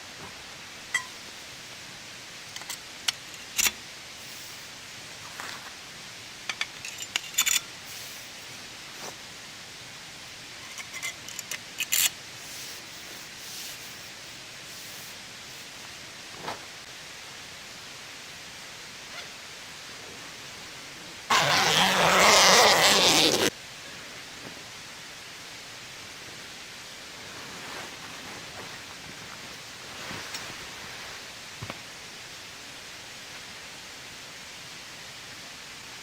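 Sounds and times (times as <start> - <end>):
rain hissing: 0.0 - 36.0.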